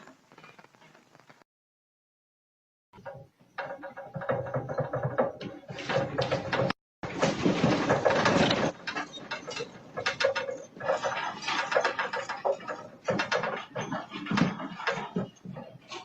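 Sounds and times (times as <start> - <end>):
rattling and clicking: 3.0 - 16.0.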